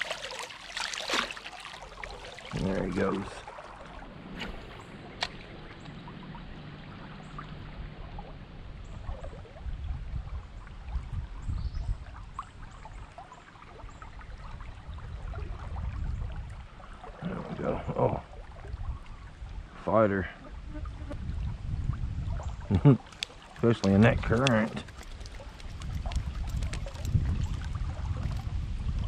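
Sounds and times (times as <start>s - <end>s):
creek water running over rocks: 0.0s - 29.0s.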